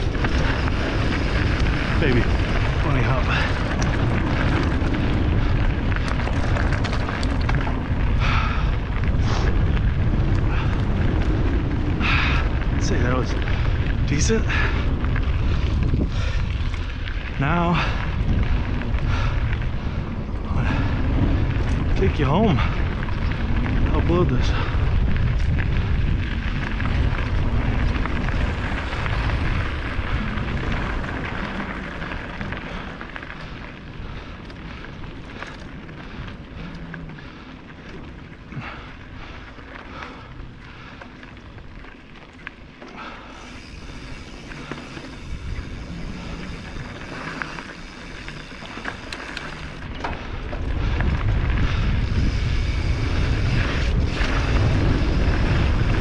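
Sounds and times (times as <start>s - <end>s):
tyres crunching over gravel: 0.0s - 19.6s, 21.0s - 56.0s
stones and bike rattling: 0.0s - 56.0s
wind buffeting microphone: 0.0s - 56.0s.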